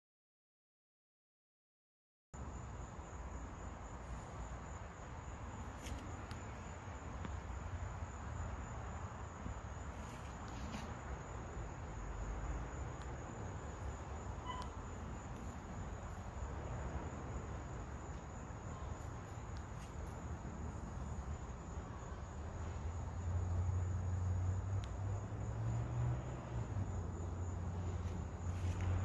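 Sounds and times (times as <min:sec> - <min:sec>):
insect trill: 0:02.4 - 0:29.0.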